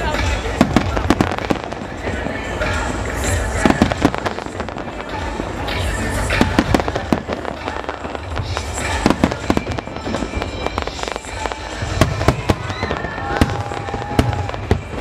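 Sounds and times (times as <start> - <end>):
fireworks bangs and crackles: 0.0 - 15.0
music playing: 0.0 - 15.0.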